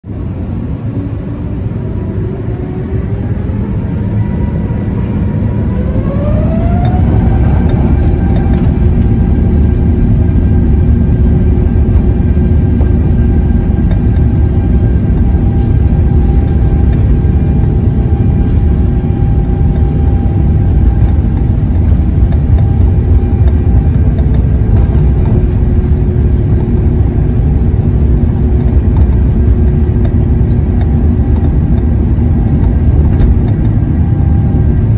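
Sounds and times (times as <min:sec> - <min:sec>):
loud low rumble: 0:00.0 - 0:34.9
jet engines whining: 0:00.1 - 0:34.9.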